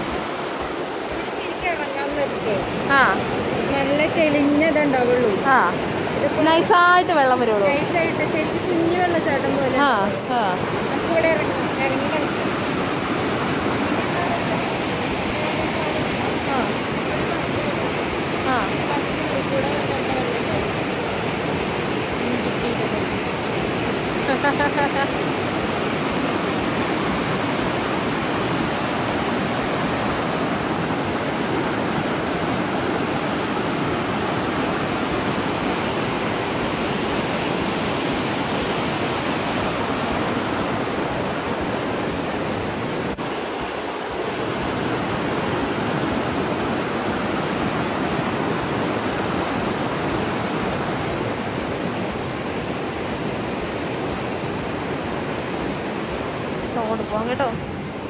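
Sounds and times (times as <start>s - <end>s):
water rushing through weir: 0.0s - 58.0s.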